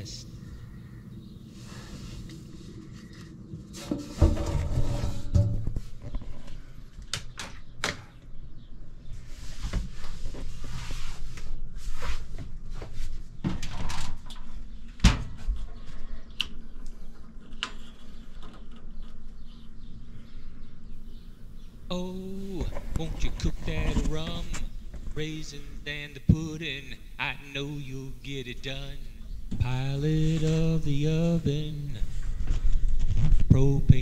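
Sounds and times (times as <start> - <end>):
steady low hum: 0.0 - 13.5, 14.3 - 34.0.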